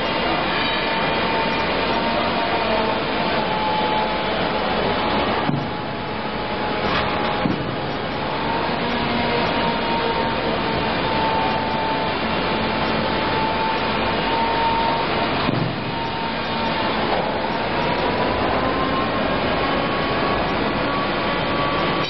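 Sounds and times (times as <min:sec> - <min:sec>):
machine running with whine: 0:00.0 - 0:22.0.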